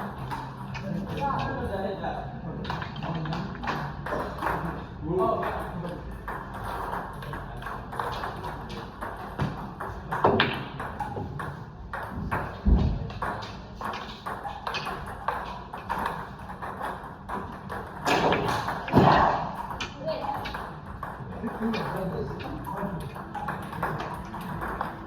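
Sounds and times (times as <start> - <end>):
pool balls clicking: 0.0 - 1.6, 2.6 - 25.0.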